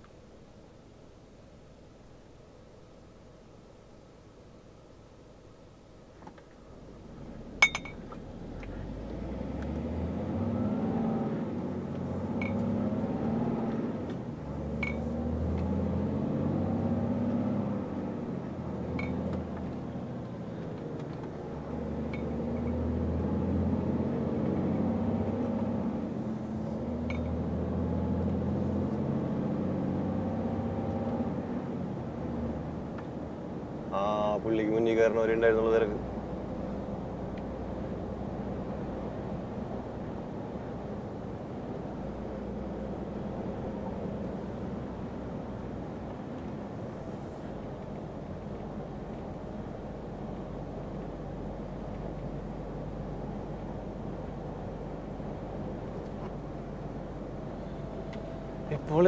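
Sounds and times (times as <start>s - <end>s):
diesel truck engine running: 6.8s - 59.0s.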